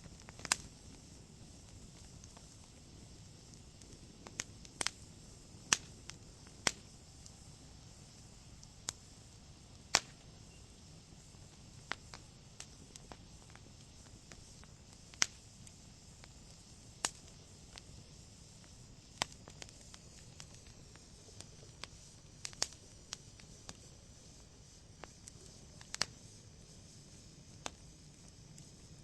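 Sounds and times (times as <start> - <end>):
log fire crackling: 0.0 - 29.0.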